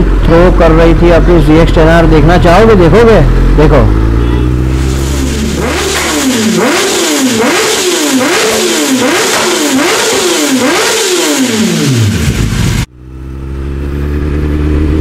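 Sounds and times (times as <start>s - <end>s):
motorcycle engine revving: 0.0s - 15.0s
steady engine note: 0.0s - 15.0s.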